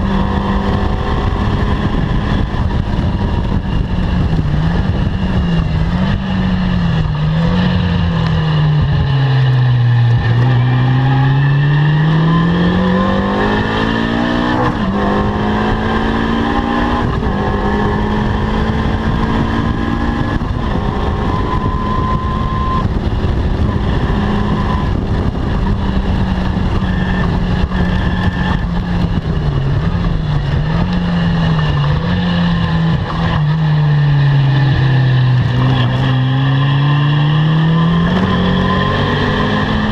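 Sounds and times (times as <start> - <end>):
sports car engine running hard: 0.0 - 39.9.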